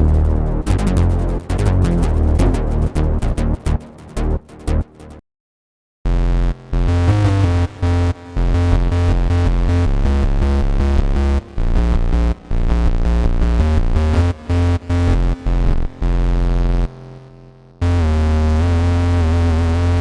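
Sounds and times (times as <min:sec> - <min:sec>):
buzzy synthesizer bass line: 0:00.0 - 0:05.2, 0:06.1 - 0:20.0.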